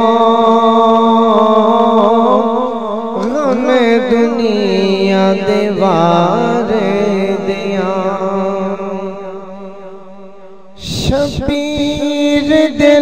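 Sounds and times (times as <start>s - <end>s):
man singing devotional lament: 0.0s - 10.2s, 10.8s - 13.0s.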